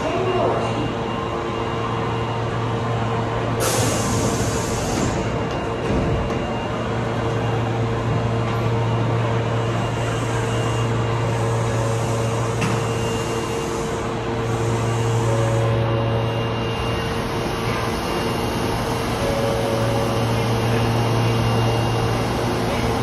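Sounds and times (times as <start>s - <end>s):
train equipment low hum: 0.0s - 23.0s.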